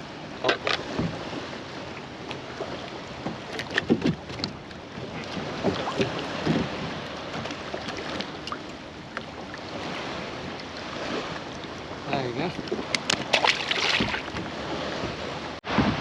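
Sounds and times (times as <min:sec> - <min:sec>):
water around kayak: 0:00.0 - 0:16.0
wind: 0:00.0 - 0:16.0.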